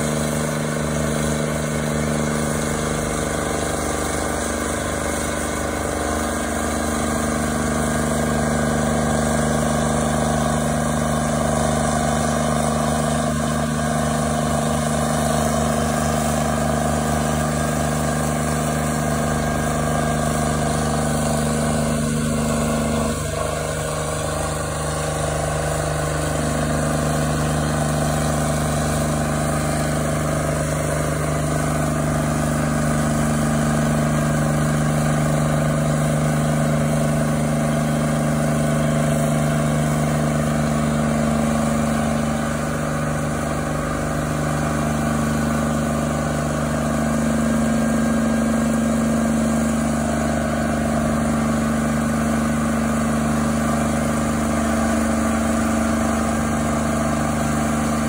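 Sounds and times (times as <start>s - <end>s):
stump grinder engine running: 0.0s - 58.0s.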